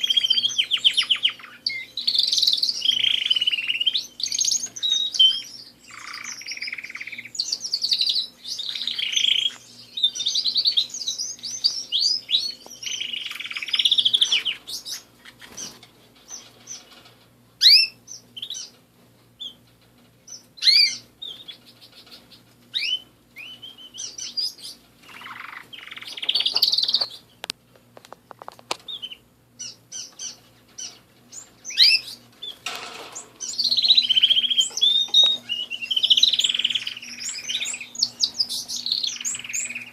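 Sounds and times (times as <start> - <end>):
canaries singing: 0.0 - 39.9
faint steady hum: 0.0 - 39.9.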